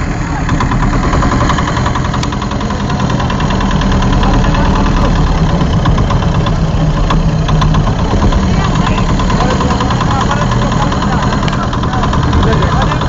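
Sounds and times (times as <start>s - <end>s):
boat engine knocking: 0.0s - 13.0s.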